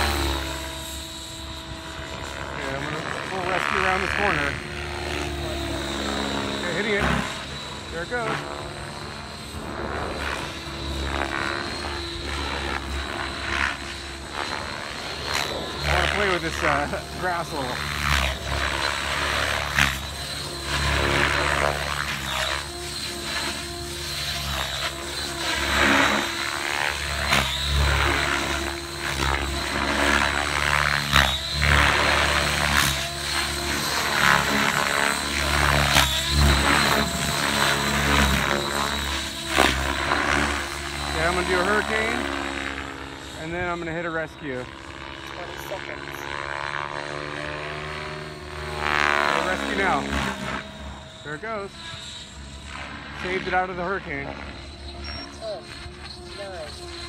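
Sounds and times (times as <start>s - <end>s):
model helicopter rotors whining: 0.0s - 57.0s.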